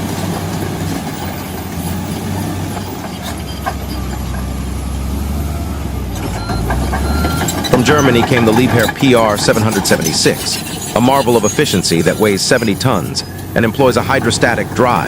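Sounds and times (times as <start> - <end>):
heavy machine engine drone: 0.0 - 15.0.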